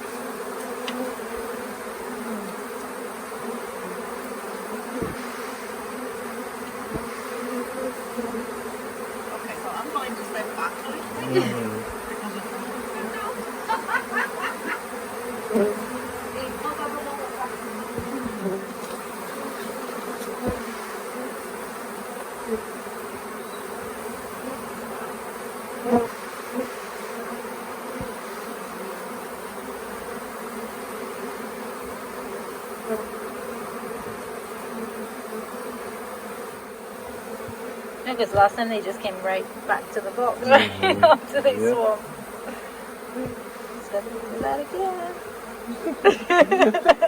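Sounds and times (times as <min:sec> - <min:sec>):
bee swarm buzzing: 0:00.0 - 0:47.0.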